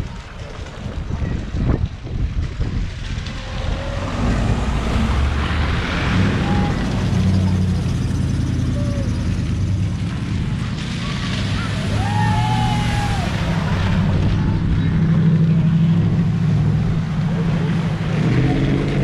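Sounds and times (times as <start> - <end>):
tyres splashing through water: 0.0 - 19.0.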